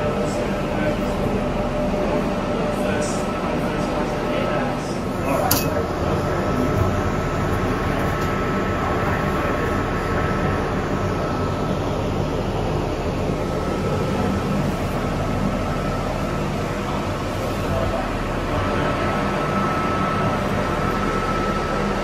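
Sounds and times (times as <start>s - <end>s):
machinery hum and rushing: 0.0s - 22.0s
thin constant whine: 0.0s - 22.0s.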